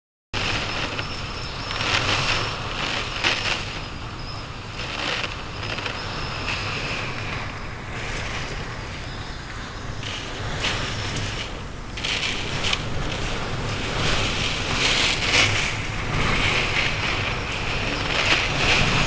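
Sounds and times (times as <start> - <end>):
strong wind gusting: 0.4 - 19.0.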